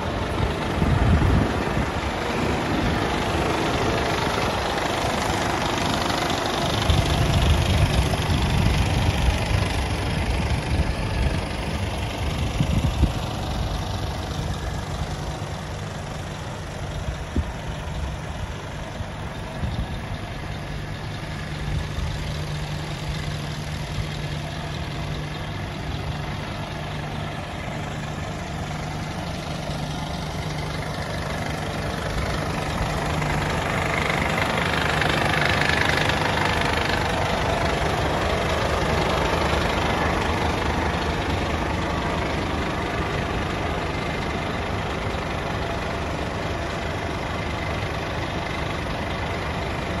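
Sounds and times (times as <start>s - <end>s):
truck diesel engine idling: 0.0s - 50.0s.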